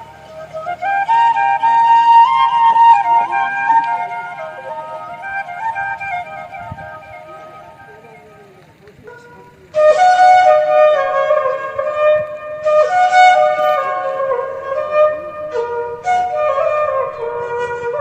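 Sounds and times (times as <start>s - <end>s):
flute melody: 0.0s - 18.0s.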